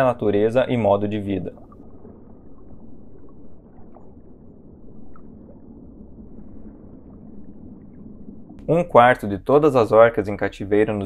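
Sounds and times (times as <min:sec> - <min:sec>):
muffled water rumble: 0:00.0 - 0:11.0.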